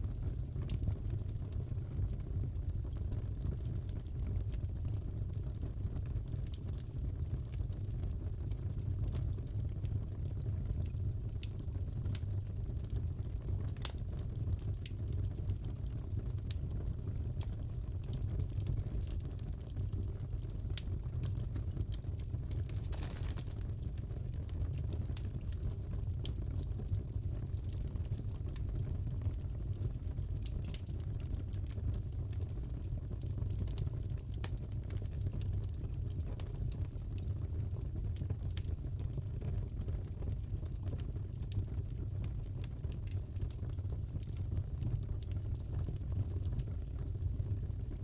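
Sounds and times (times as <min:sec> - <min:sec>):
fire crackling in a fireplace: 0:00.0 - 0:48.0
low rumble of burning: 0:00.0 - 0:48.0.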